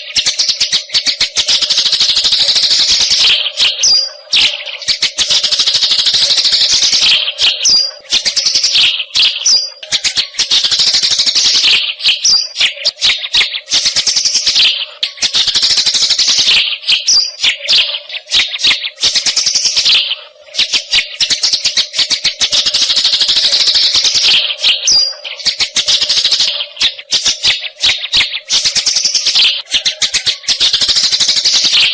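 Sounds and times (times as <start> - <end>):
sparrow chattering calls: 0.0 - 31.9.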